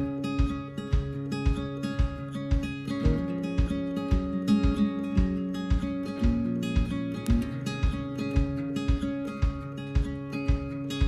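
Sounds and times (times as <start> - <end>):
guitar music: 0.0 - 11.0
low thumping beat: 0.0 - 11.0.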